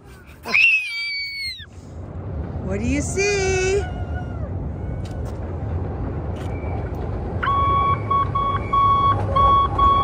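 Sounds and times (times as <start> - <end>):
train rumbling on elevated track: 0.0 - 10.0.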